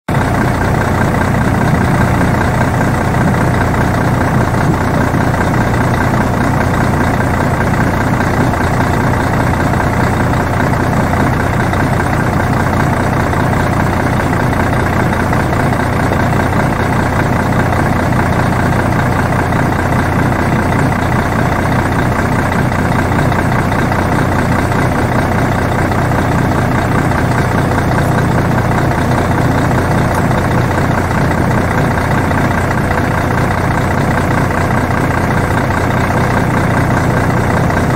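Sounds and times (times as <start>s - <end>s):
bus engine idling: 0.1s - 37.9s.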